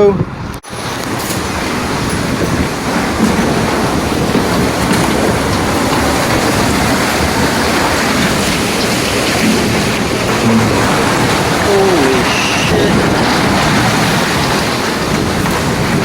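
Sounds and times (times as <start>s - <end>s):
tornado wind roaring: 0.0s - 16.0s.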